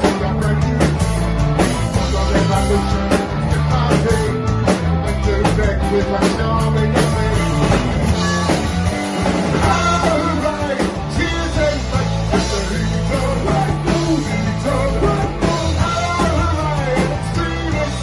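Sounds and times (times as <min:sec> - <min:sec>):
live punk rock band playing: 0:00.0 - 0:18.0
lead vocal singing: 0:01.8 - 0:08.8, 0:09.5 - 0:18.0.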